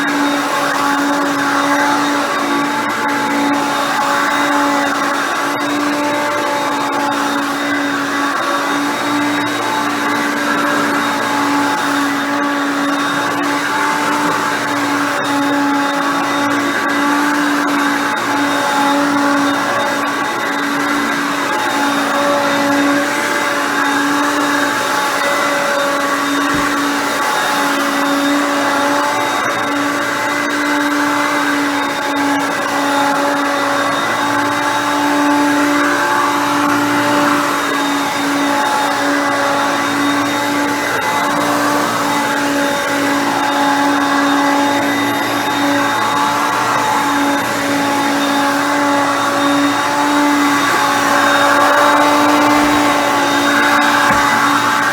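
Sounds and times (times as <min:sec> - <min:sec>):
vacuum cleaner motor whine: 0:00.0 - 0:54.9.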